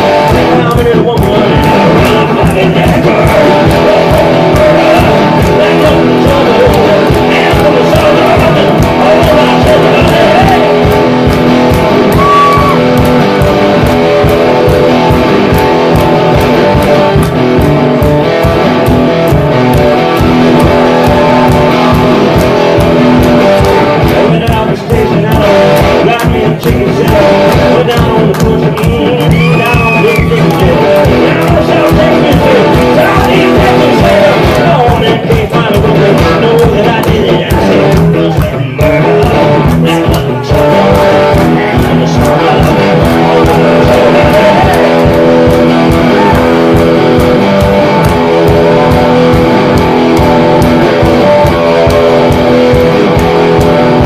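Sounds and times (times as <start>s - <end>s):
electric guitar rock-blues: 0.0s - 54.0s.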